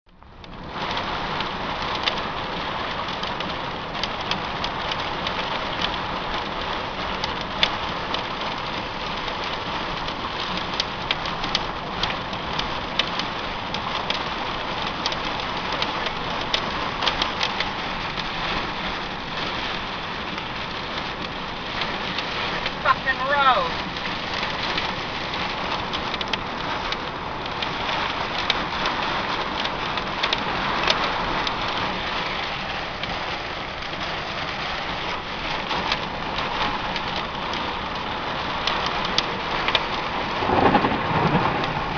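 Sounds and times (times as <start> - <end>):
heavy rain hitting a car: 0.1 - 41.9.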